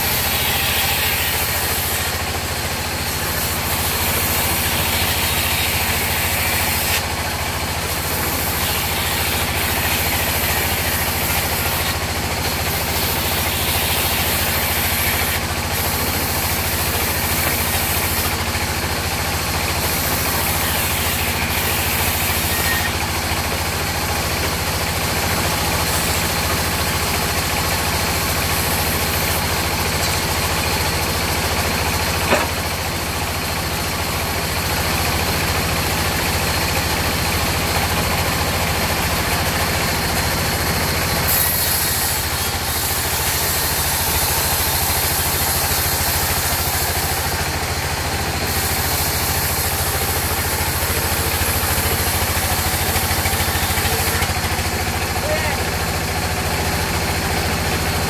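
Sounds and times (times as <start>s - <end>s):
band sawmill humming: 0.0s - 58.0s.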